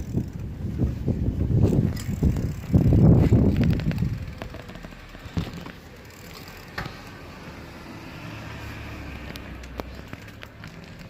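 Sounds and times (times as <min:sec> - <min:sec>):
bike clicks and rattles: 0:00.0 - 0:07.9, 0:09.1 - 0:11.0
tyres and wind rumble: 0:00.0 - 0:11.0.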